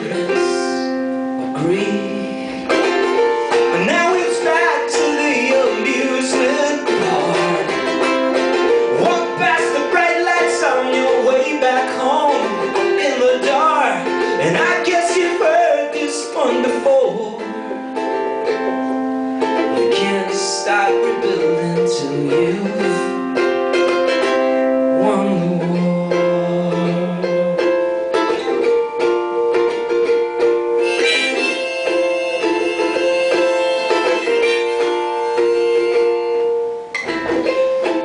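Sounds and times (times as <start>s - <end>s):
ukulele strumming and picking: 0.0s - 38.0s.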